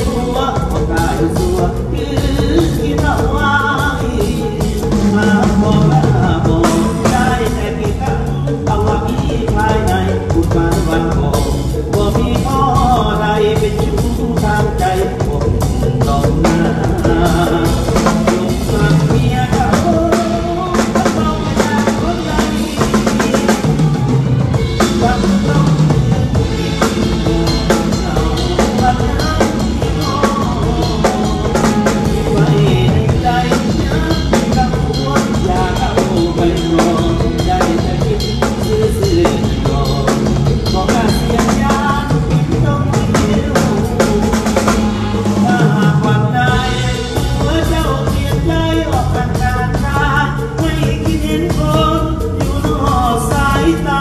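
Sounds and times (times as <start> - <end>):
drum kit: 0.0 - 54.0
live band instrumental: 0.0 - 54.0.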